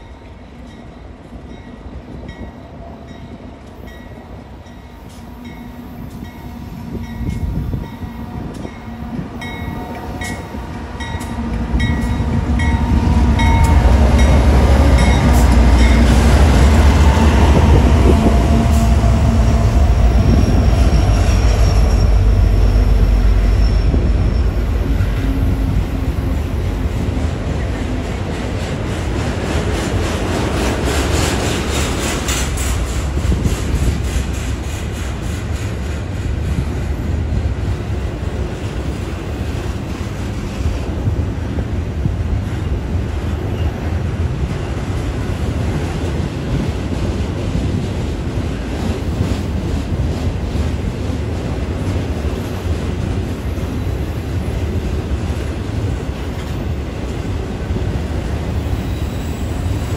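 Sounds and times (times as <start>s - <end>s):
diesel locomotive engines rumbling: 0.0s - 59.9s
train cars rolling: 3.1s - 59.9s.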